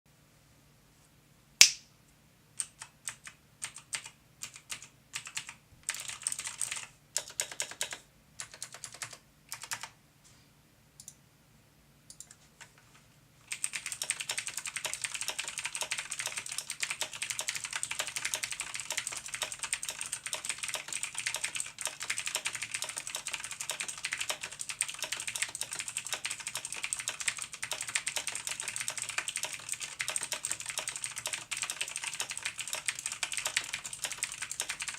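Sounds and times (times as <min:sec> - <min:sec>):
fast typing: 0:02.6 - 0:09.9, 0:13.5 - 0:34.9
mechanical keyboard clicking: 0:02.6 - 0:09.9, 0:13.5 - 0:34.9.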